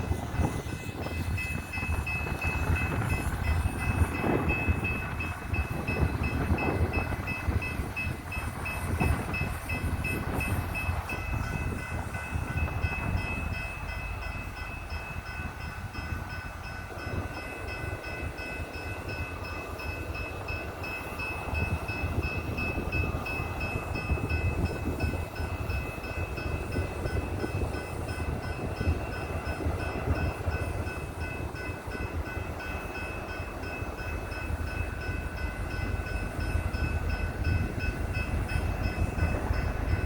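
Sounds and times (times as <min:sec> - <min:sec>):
train cars rumbling on rails: 0:00.0 - 0:40.0.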